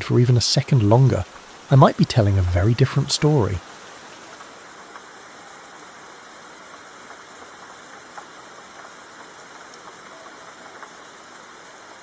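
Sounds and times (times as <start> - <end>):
faint raindrop ticks: 0.0 - 12.0
rain hiss: 0.0 - 12.0.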